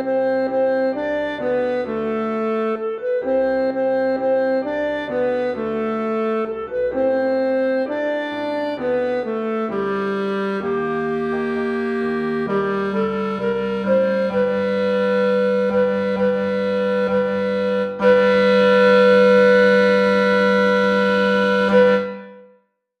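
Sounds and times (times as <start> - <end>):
clarinet ensemble music: 0.0 - 22.6.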